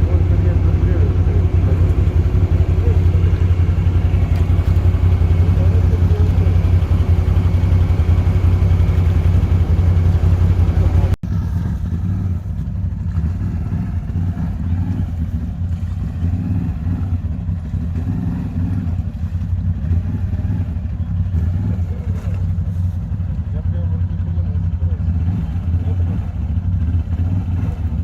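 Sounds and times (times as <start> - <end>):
engine running with deep note: 0.0 - 28.0
rougher quieter engine: 0.0 - 28.0.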